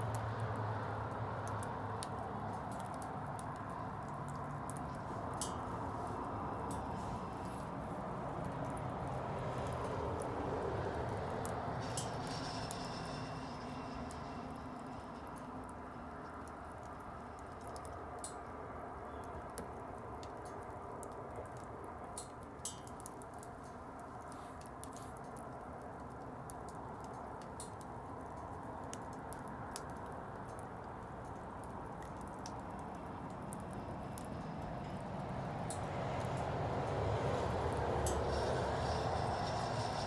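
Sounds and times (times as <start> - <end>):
bonfire crackling and popping: 0.0 - 40.0.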